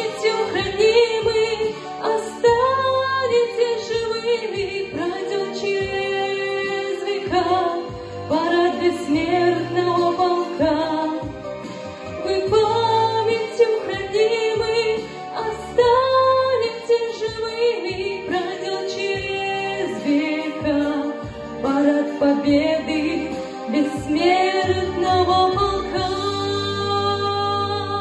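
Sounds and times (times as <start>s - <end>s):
instrumental accompaniment: 0.0s - 28.0s
woman singing into a microphone: 0.0s - 28.0s.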